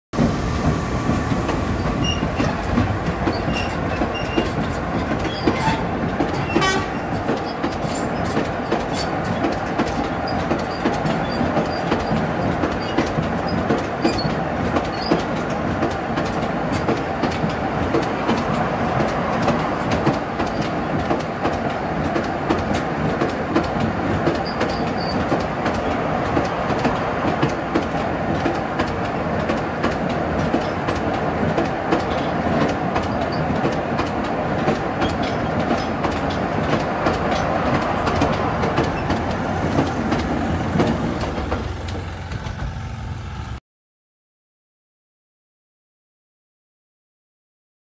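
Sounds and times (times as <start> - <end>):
wagon wheels clattering over rail joints: 1.4 - 43.3.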